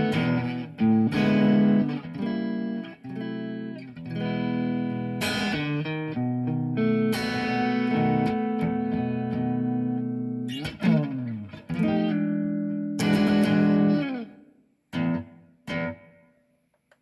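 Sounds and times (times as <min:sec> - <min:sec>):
electric guitar chords: 0:00.0 - 0:16.2.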